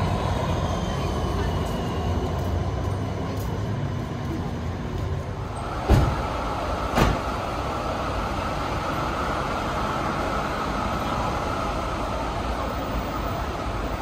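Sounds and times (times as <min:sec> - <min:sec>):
tram clunk: 0:00.0 - 0:14.0
tram rolling along track: 0:00.0 - 0:14.0.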